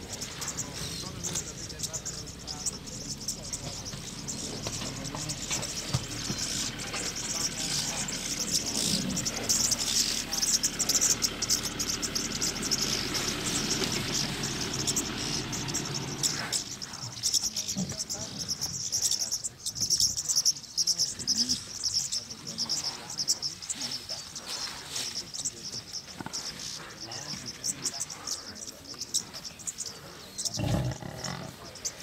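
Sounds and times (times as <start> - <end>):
broad rough noise: 0.0 - 32.0
insects shrilling chorus: 0.0 - 32.0.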